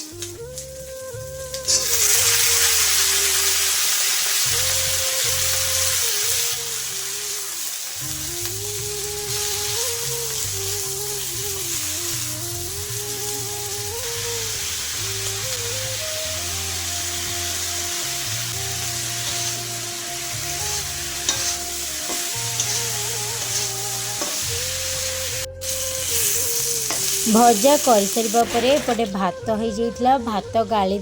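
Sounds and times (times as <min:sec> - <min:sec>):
vegetables sizzling in hot oil: 0:00.0 - 0:29.3
background music: 0:00.0 - 0:31.0.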